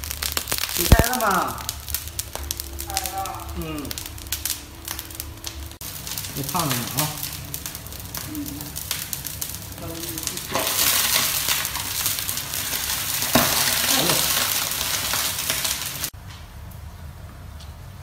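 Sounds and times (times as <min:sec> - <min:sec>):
hot oil sizzling: 0:00.0 - 0:16.7.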